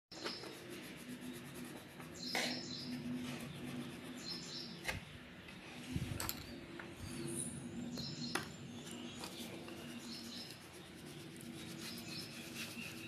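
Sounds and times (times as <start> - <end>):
small birds chirping: 0.1 - 5.7, 6.4 - 13.0.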